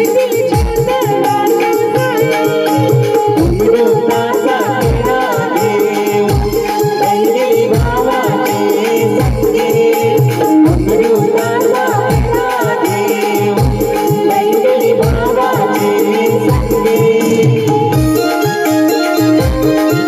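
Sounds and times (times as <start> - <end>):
fast high percussion pattern: 0.0 - 20.0
keyboards: 0.0 - 20.0
person singing: 0.0 - 20.0.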